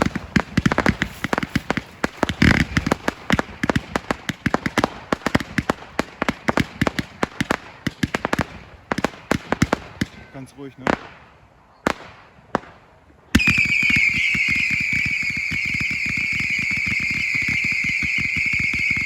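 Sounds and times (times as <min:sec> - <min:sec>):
fireworks and firecrackers banging: 0:00.0 - 0:19.0.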